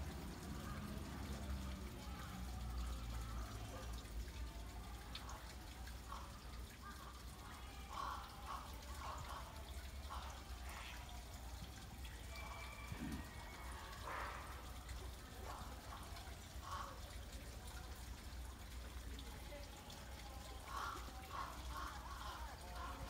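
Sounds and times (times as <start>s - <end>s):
water trickling into pond: 0.0s - 23.0s.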